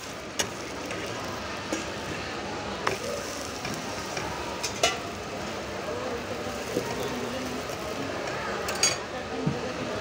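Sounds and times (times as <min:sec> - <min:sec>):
food sizzling in oil: 0:00.0 - 0:09.1.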